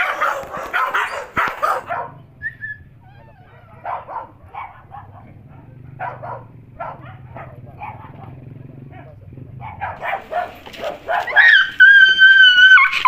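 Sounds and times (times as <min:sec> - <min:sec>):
dogs whimpering: 0:00.0 - 0:08.2, 0:09.6 - 0:13.0
dogs yipping and barking: 0:00.0 - 0:13.0.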